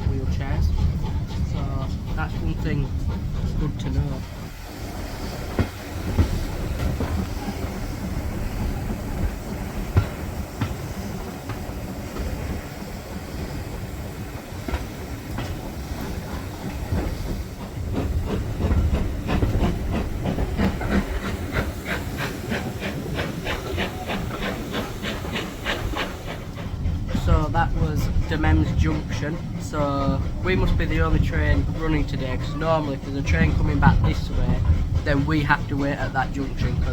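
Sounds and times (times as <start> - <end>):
steam engine beat: 0.0 - 36.9
train coaches rumbling on rails: 0.0 - 36.9
steam hiss: 1.1 - 36.9.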